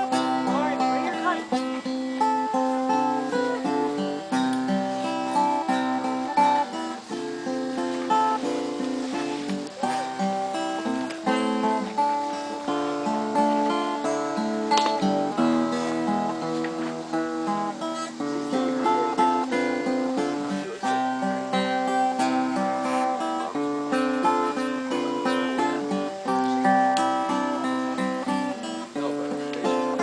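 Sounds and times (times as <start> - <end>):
acoustic guitar strummed and picked: 0.0 - 30.0.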